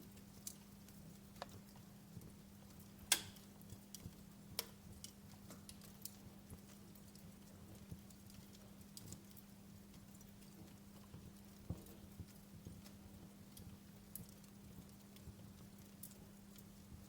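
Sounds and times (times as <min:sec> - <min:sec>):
faint steady hiss: 0:00.0 - 0:17.0
wood fire crackling: 0:00.0 - 0:17.0.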